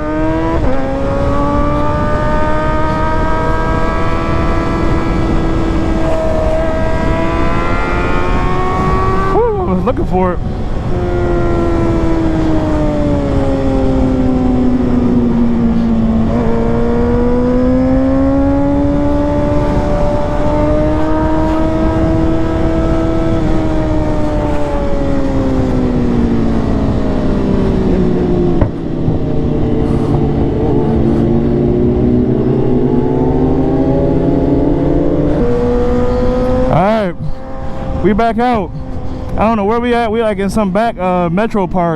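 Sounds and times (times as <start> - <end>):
motorcycle engine: 0.0 - 40.6
wind rush on microphone: 0.0 - 41.9.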